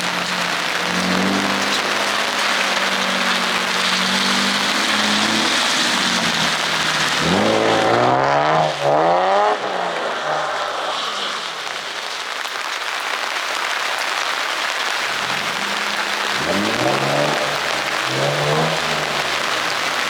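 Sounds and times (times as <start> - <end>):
car engine revving: 0.0 - 12.1, 14.1 - 20.0
rain and wet tyres hiss: 0.0 - 20.0.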